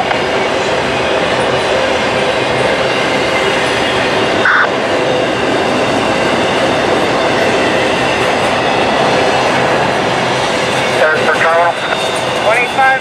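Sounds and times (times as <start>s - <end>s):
freight train rumbling past: 0.0s - 13.0s
high wheel squeal: 2.3s - 13.0s.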